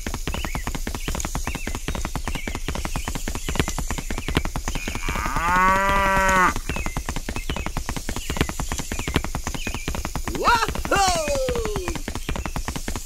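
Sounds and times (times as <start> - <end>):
fast even clicking: 0.0 - 13.0.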